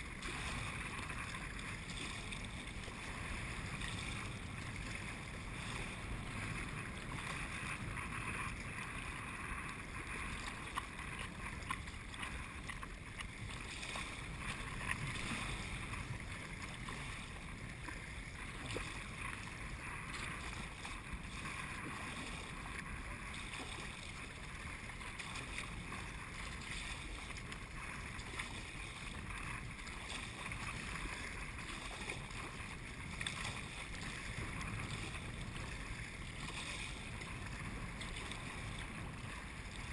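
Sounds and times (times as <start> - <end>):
choppy water: 0.0 - 39.9
paddle splashes: 0.0 - 39.9
wind: 0.0 - 39.9.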